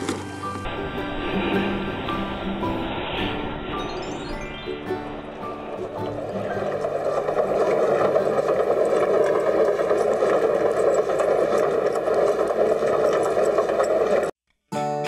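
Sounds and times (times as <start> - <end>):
wheel rumbling rattle: 0.0 - 14.3.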